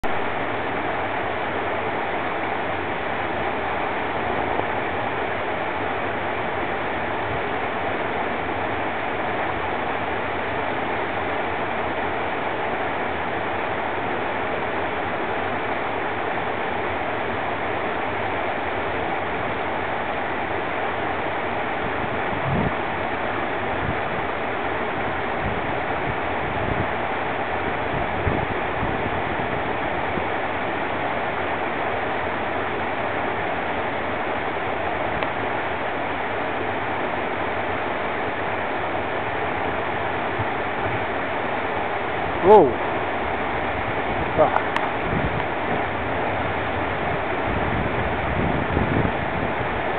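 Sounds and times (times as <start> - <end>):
waterfall rushing: 0.1 - 48.3.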